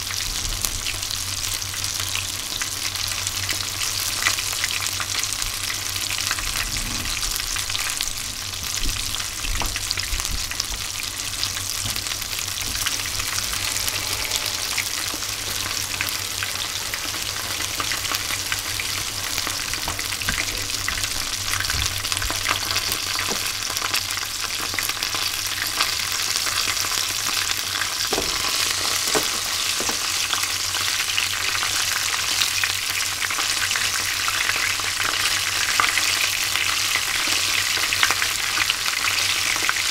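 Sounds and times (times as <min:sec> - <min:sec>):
fish deep-frying in sizzling oil: 0:00.0 - 0:39.9.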